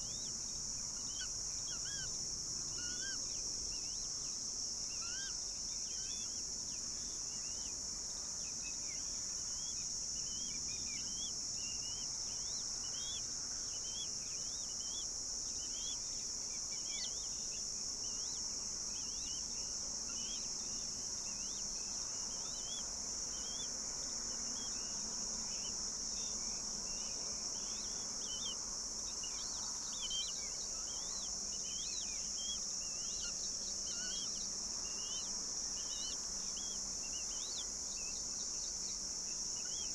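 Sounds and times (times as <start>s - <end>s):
birds chirping: 0.0s - 39.9s
insects droning: 0.0s - 39.9s.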